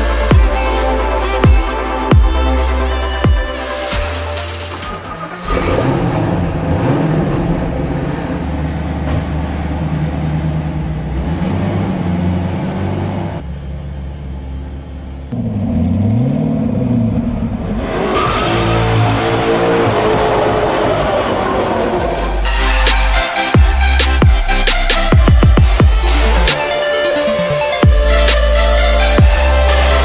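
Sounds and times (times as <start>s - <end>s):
sports car engine revving: 4.8s - 30.0s.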